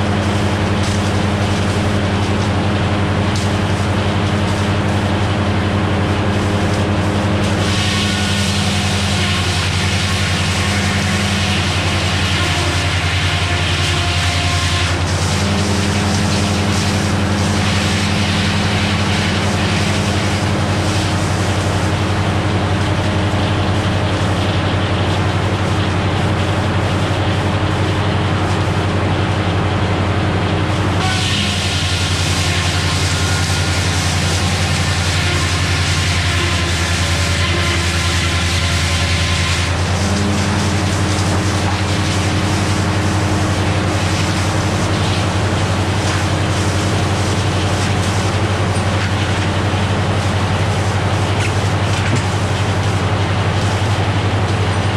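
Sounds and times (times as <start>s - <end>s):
circular sawmill running: 0.0s - 54.9s
diesel engine running: 0.0s - 54.9s
steady hum: 0.0s - 54.9s.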